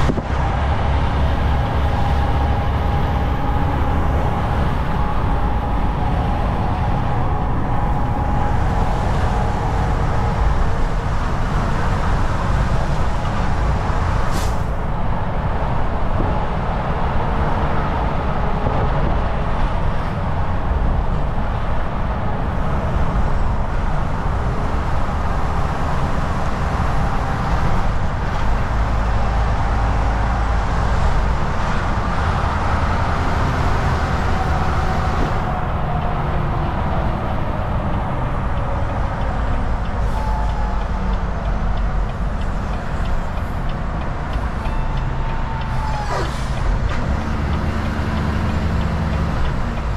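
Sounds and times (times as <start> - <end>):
truck engine drone: 0.0 - 49.9
tyre and road noise: 0.0 - 49.9.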